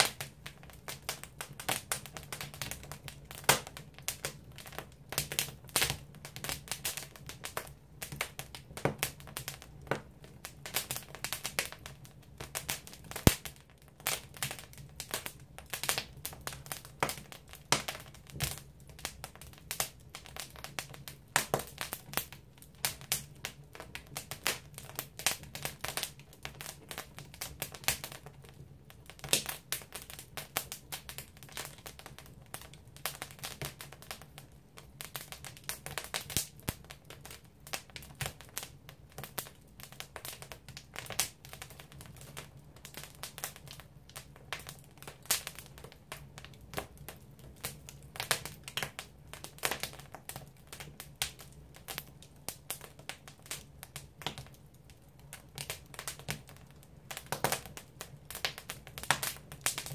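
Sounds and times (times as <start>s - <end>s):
firewood crackling and popping: 0.0s - 59.9s.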